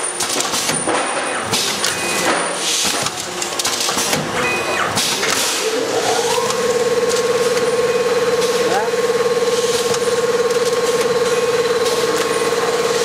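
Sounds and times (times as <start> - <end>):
machine whine and buzzing hum: 0.0 - 13.0
packing machine clatter and clicks: 0.0 - 13.0.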